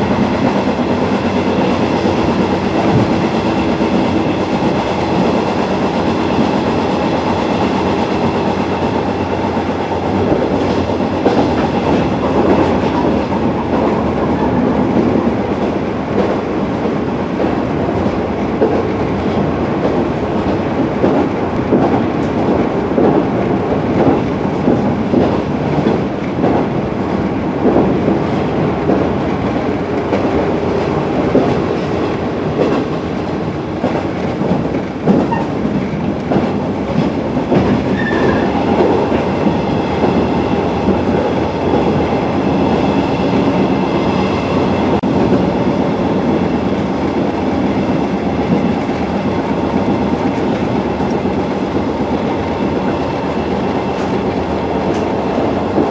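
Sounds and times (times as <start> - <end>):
train running rumble: 0.0 - 55.9.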